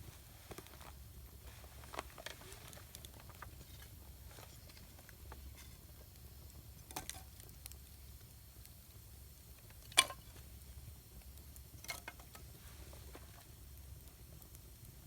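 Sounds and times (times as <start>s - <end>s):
campfire crackling and popping: 0.2s - 15.0s.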